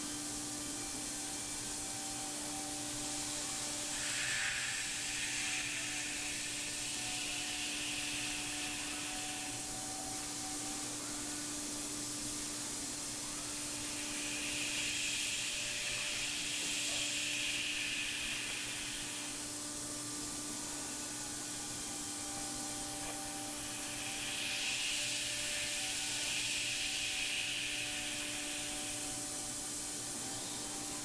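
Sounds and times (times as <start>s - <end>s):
bright high hiss: 0.0s - 31.0s
compressed air hissing: 0.0s - 31.0s
router spindle whine: 0.0s - 31.0s.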